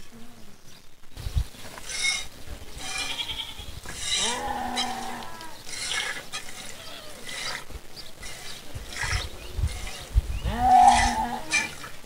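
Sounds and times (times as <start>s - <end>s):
farm animal calling: 1.8s - 12.0s.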